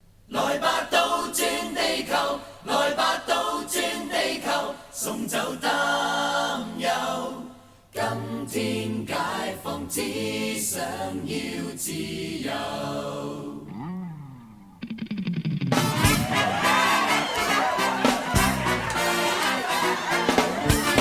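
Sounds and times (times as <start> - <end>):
a cappella singing voices: 0.3 - 14.1, 15.8 - 21.0.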